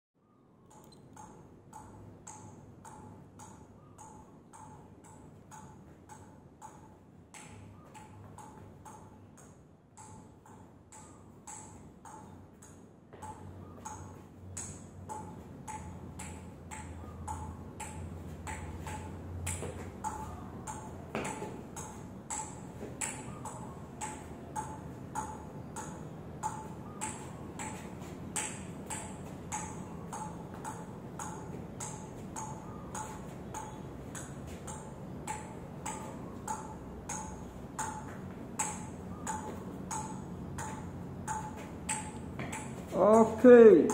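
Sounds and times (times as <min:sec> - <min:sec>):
ping-pong ball tapping on bat: 0:00.7 - 0:43.9.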